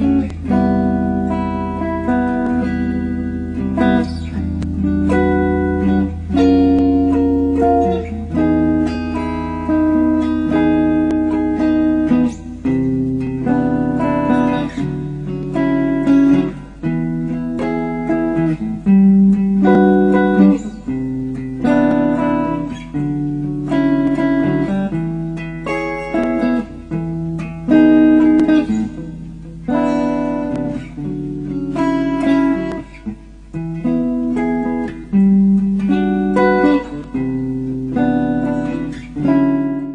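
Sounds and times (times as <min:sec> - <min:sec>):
guitar music: 0:00.0 - 0:39.9.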